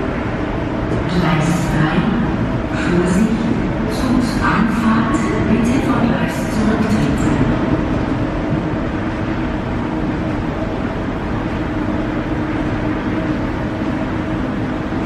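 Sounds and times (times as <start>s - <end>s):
moving walkway mechanical drone: 0.0s - 15.0s.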